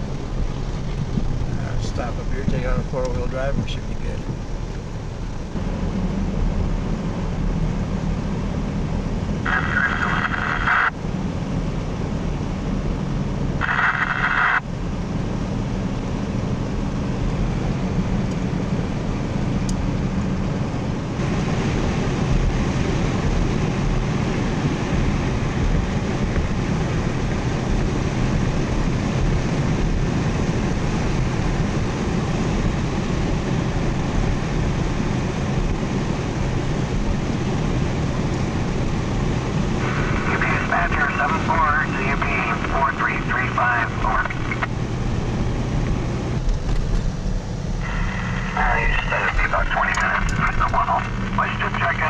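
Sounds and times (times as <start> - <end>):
vehicle engine hum: 0.0 - 52.0.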